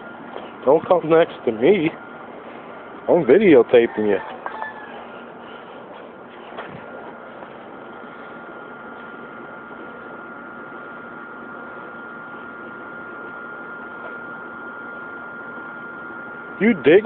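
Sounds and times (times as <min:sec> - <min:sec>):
background hiss and hum: 0:00.0 - 0:17.0
high whine: 0:00.0 - 0:17.0.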